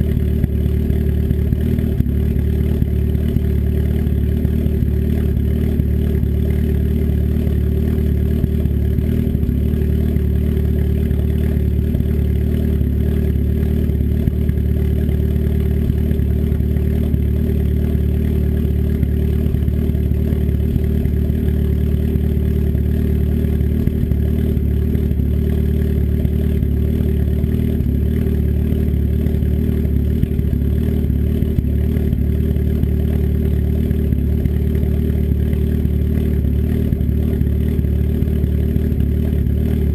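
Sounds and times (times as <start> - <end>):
unsilenced engine idling: 0.0 - 39.9.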